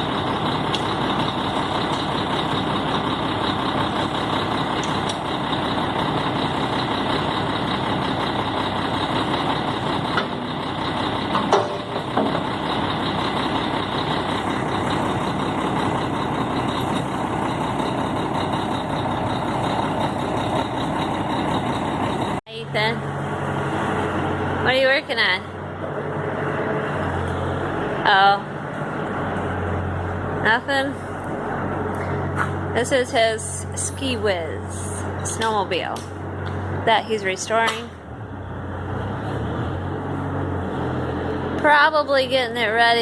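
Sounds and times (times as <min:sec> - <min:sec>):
heavy engine running: 0:00.0 - 0:43.0.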